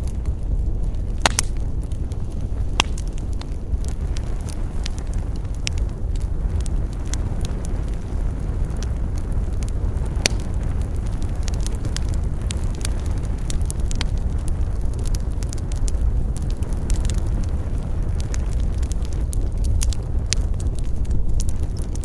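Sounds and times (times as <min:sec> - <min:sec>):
campfire rumbling: 0:00.0 - 0:22.0
fire crackles and pops: 0:00.0 - 0:22.0.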